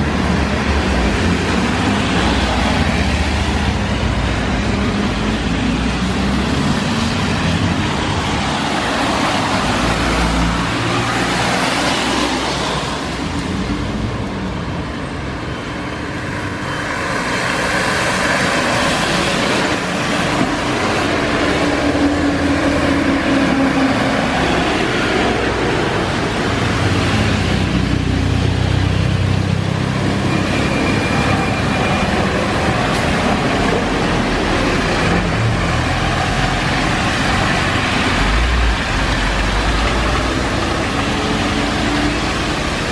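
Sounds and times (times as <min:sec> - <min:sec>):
bus engine hum: 0:00.0 - 0:42.9
tyres hissing on wet road: 0:00.0 - 0:42.9.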